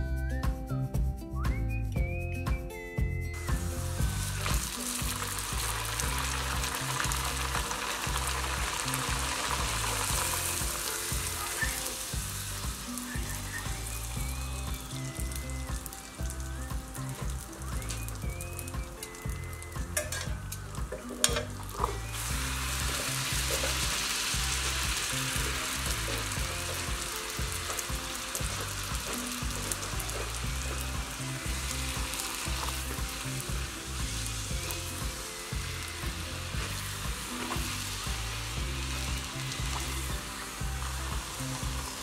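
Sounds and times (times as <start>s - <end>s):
background music with low beat: 0.0s - 42.0s
bread deep-frying in oil: 3.4s - 42.0s.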